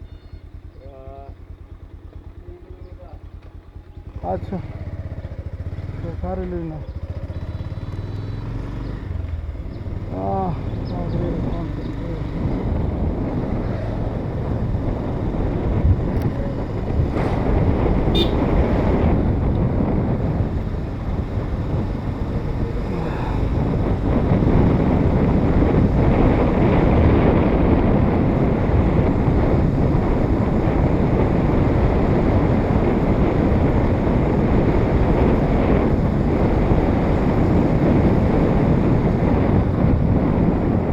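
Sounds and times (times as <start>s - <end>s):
motorcycle engine: 0.0s - 40.9s
road noise: 0.0s - 40.9s
wind on microphone: 4.0s - 40.9s.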